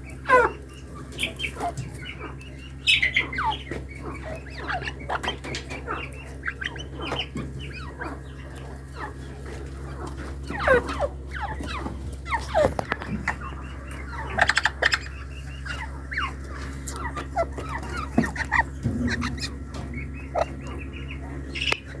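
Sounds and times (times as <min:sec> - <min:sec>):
partridges calling: 0:00.0 - 0:22.0
steady low hum: 0:00.0 - 0:22.0.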